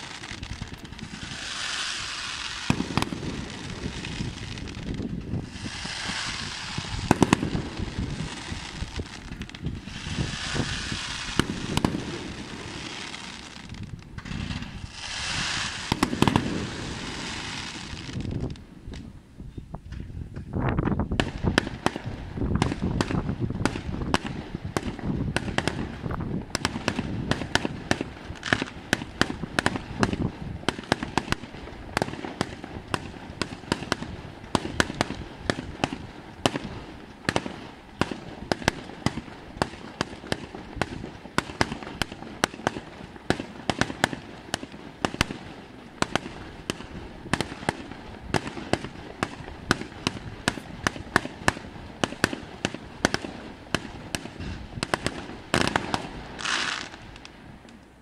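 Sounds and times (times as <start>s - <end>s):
fireworks bangs and crackles: 0.0s - 19.2s, 19.8s - 58.0s.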